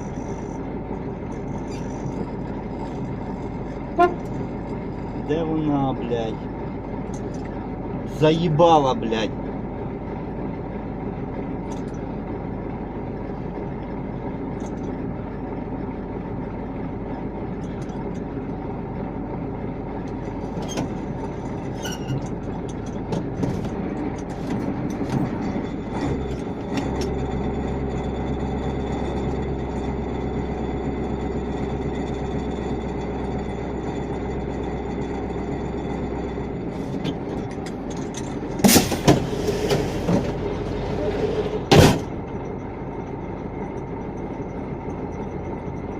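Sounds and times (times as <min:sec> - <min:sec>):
deeper engine drone: 0:00.0 - 0:45.9
vehicle engine running: 0:00.0 - 0:45.9.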